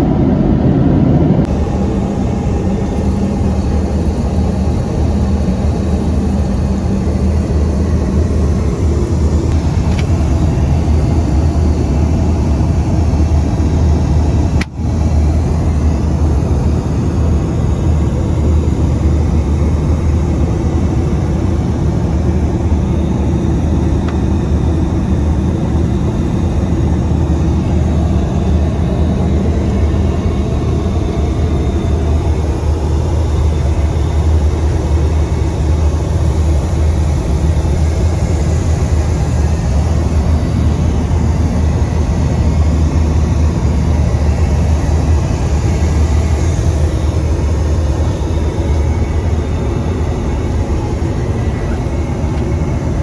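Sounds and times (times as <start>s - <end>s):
airliner engines in cabin: 0.0s - 53.0s.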